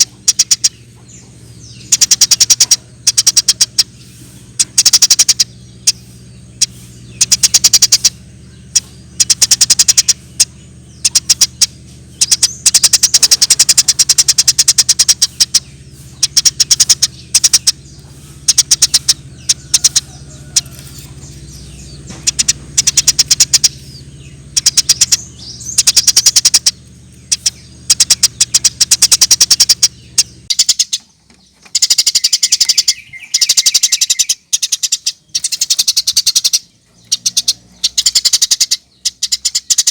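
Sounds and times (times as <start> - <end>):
sparrow chattering: 0.0 - 39.9
steady low hum: 0.0 - 39.9.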